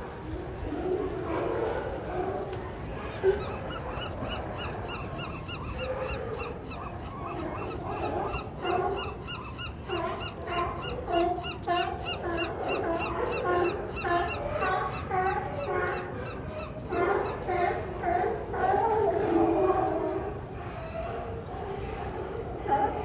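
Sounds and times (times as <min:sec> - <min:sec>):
sea lions barking and honking: 0:00.0 - 0:23.0.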